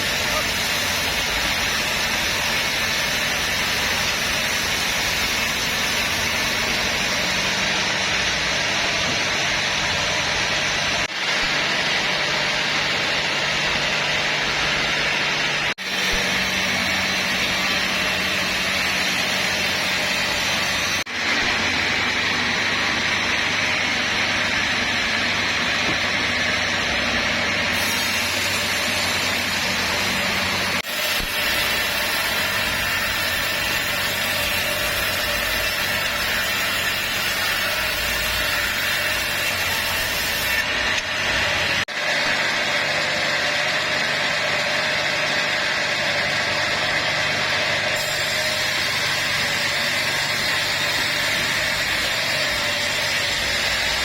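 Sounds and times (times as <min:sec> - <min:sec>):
sawmill machinery droning and hissing: 0:00.0 - 0:54.0.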